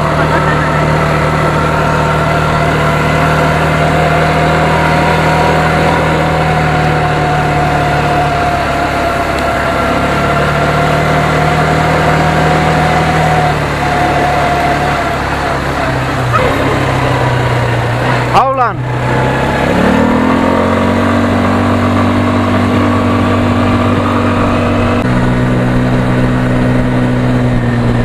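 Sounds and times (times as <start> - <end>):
vehicle engine running with whine: 0.0 - 28.0.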